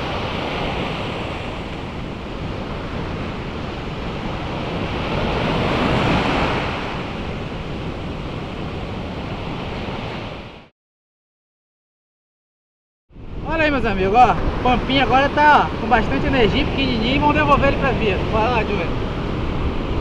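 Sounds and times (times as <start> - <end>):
ocean surf breaking: 0.0 - 10.7, 13.2 - 20.0.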